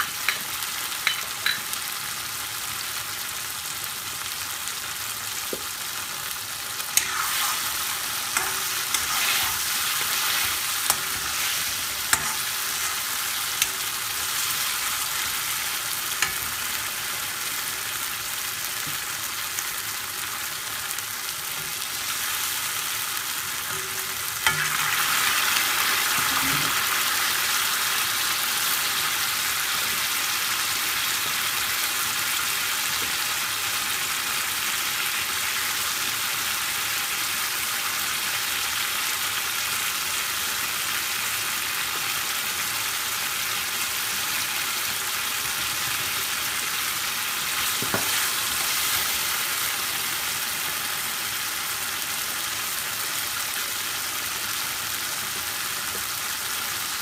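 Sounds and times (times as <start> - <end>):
sauce sizzling in a pan: 0.0 - 57.0.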